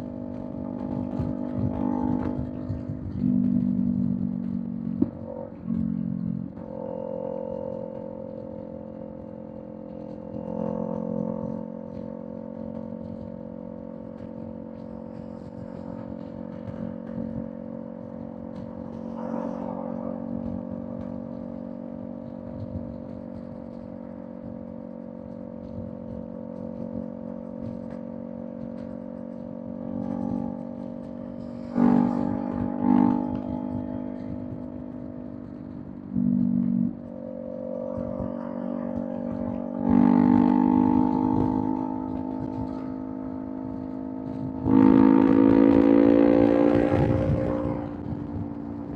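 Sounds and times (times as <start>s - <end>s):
motorcycle engine humming: 0.0s - 48.9s.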